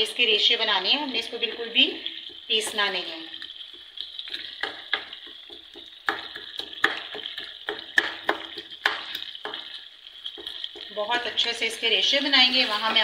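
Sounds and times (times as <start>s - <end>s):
chicken sizzling in oil: 0.0s - 13.0s
wooden spoon scraping pot: 1.1s - 13.0s.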